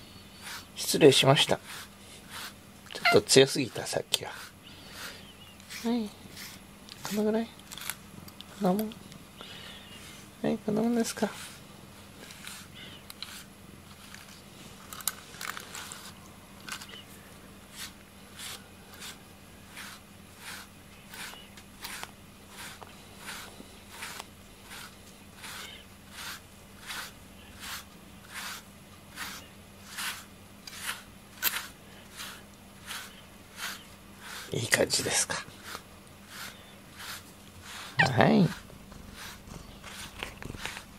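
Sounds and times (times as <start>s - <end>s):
brush raking through fur: 0.2s - 8.9s, 9.5s - 17.0s, 17.6s - 40.9s.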